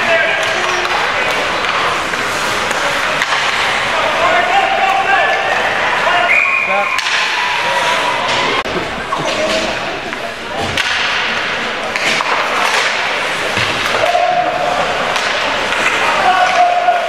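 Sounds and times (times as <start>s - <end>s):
skates scraping ice: 0.0s - 10.0s, 10.7s - 17.0s
hockey sticks hitting puck: 0.0s - 17.0s
spectators' voices: 0.0s - 17.0s.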